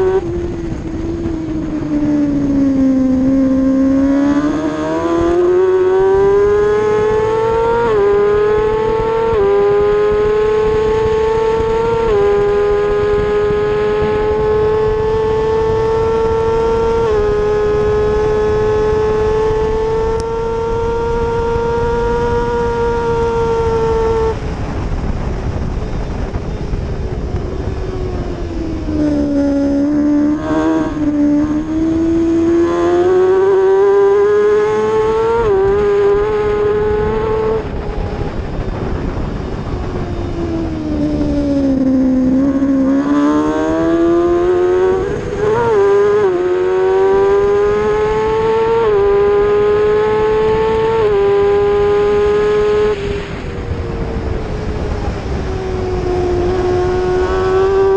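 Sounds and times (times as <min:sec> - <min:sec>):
low wind rumble: 0:00.0 - 0:57.9
racing motorcycle engine revving: 0:00.0 - 0:57.9.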